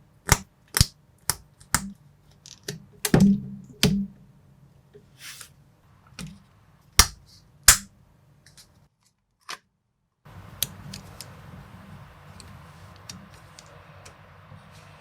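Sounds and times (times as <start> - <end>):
faint steady hiss: 0.0 - 8.9, 10.3 - 15.0.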